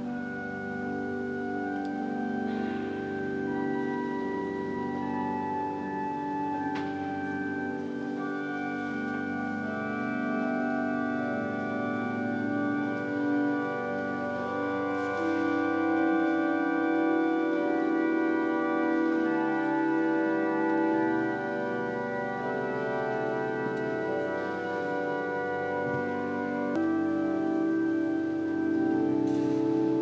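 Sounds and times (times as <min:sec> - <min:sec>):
organ chords: 0:00.0 - 0:30.0.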